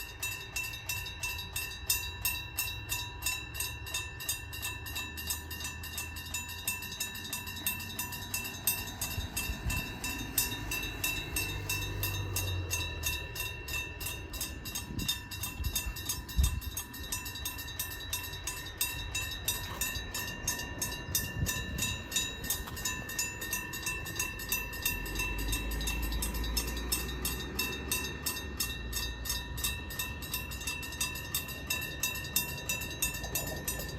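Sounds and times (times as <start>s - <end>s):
level crossing bell ringing: 0.0s - 33.9s
railcar rumble: 0.0s - 33.9s.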